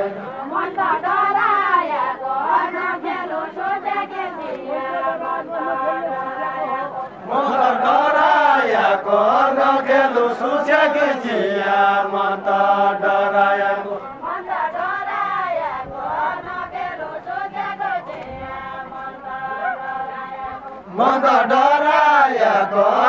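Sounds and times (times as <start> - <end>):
group of men singing: 0.0 - 23.0.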